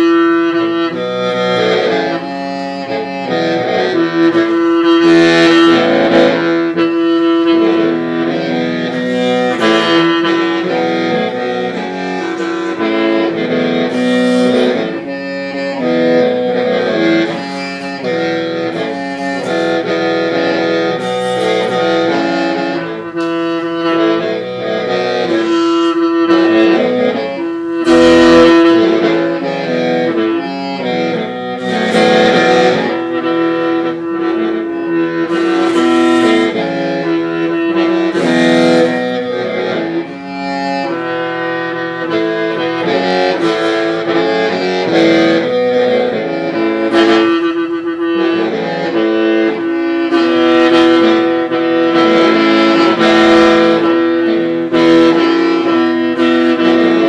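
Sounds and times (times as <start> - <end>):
mouth organ melody over drone: 0.0 - 57.0.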